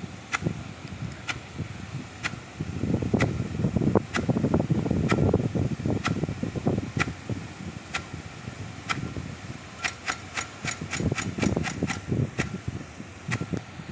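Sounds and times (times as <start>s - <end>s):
sprinkler ticking: 0.0s - 13.7s
water jet rushing: 0.0s - 13.9s.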